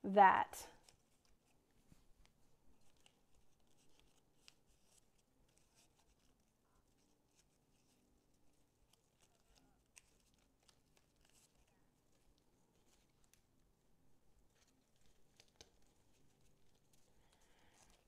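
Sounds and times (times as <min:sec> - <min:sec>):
faint rustles and ticks of hands: 0:00.2 - 0:18.0.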